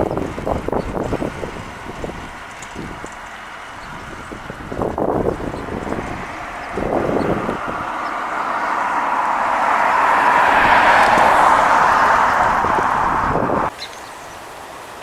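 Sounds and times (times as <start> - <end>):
passing vehicle rushing: 0.0 - 13.7
wind buffeting microphone: 0.0 - 13.7.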